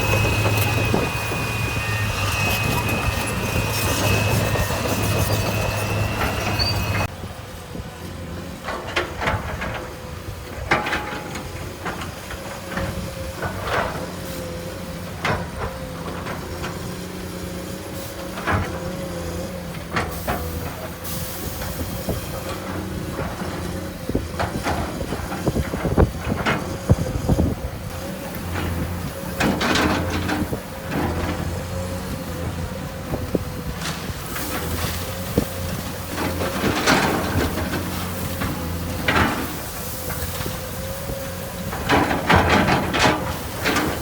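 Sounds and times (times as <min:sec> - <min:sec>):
diesel engine running: 0:00.0 - 0:10.4, 0:11.4 - 0:44.0.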